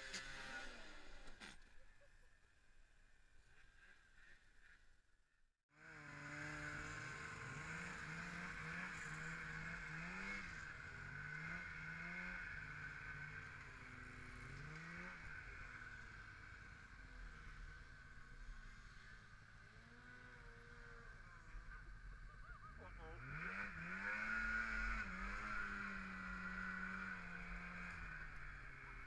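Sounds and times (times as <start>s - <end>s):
snowmobile engine revving: 0.0s - 1.6s, 5.8s - 29.0s.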